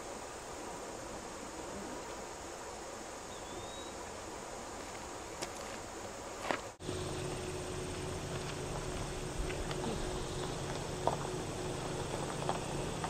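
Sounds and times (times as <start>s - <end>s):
insects buzzing: 0.0s - 13.0s
steady low hum: 0.0s - 13.0s.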